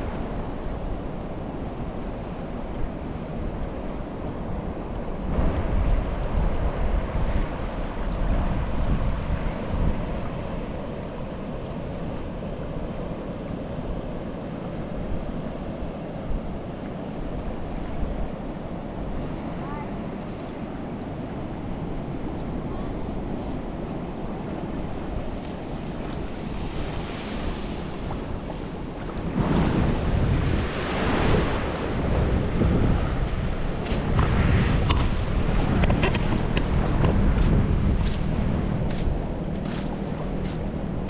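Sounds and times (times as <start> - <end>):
small waves lapping on sand: 0.0 - 41.0
wind rumbling on microphone: 0.0 - 41.0.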